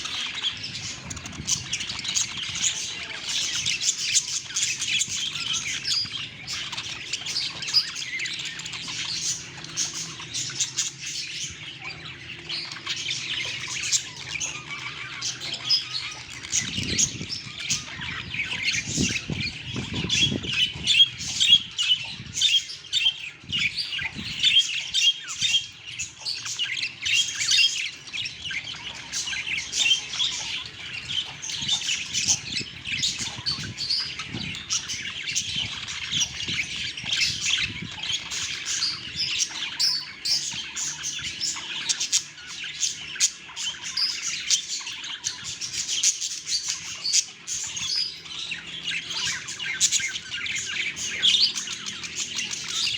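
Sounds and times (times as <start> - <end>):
budgerigars chirping and squawking: 0.0 - 52.9.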